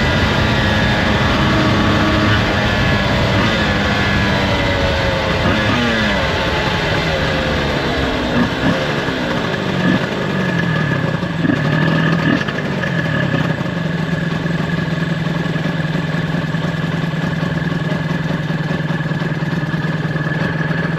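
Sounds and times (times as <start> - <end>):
two-stroke motorcycle engine: 0.0 - 20.9.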